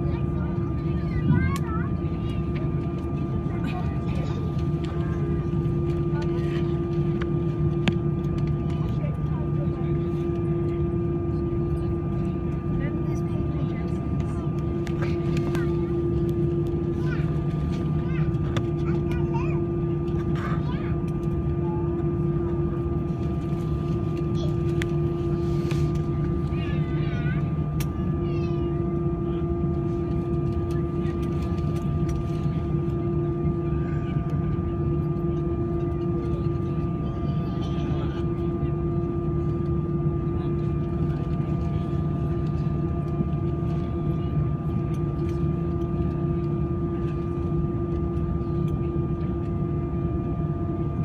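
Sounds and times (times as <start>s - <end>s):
constant hum tone: 0.0s - 51.0s
jet engine drone in cabin: 0.0s - 51.0s.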